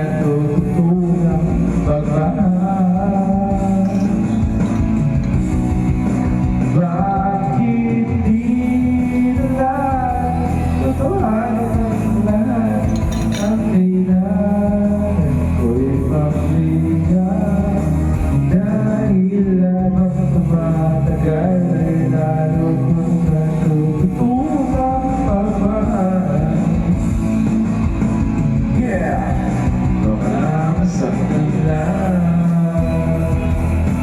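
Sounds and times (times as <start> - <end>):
band music with singer: 0.0 - 34.0.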